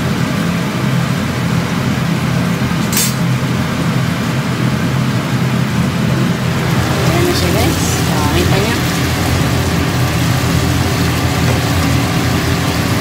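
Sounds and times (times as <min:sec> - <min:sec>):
range hood fan humming: 0:00.0 - 0:13.0.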